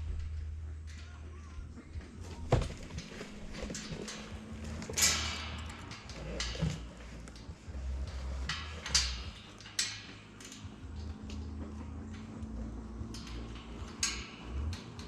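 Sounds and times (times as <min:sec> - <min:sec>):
low rumble: 0:00.0 - 0:14.8
sharp knocks and clatters: 0:00.0 - 0:15.0.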